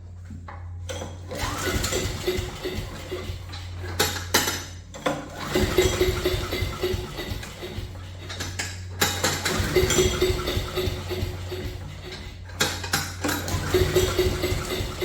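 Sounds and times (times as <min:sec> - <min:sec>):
metal objects clattering: 0:01.0 - 0:15.0.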